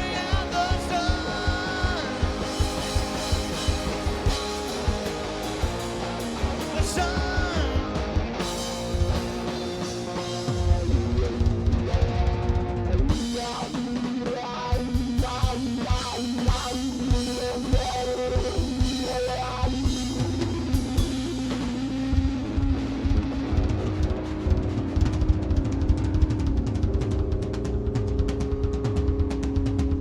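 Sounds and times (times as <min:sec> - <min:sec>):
drum kit beat: 0:00.0 - 0:30.0
electric guitar: 0:00.0 - 0:30.0.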